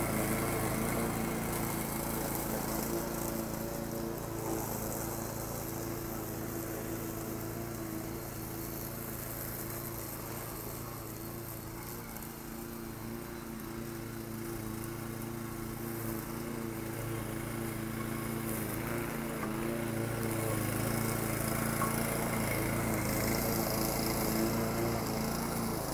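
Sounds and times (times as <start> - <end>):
lawn mower running: 0.0 - 25.9.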